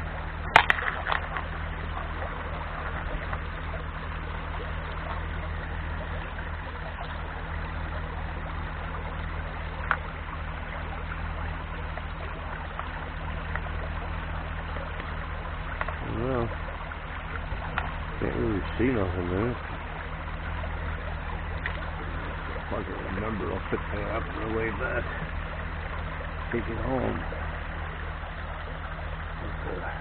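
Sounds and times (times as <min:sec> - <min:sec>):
river water running over stones: 0:00.0 - 0:30.0.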